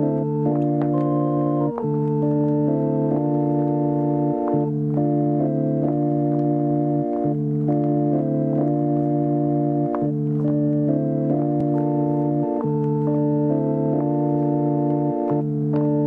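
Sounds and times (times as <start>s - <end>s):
electric organ chords: 0.0s - 16.0s.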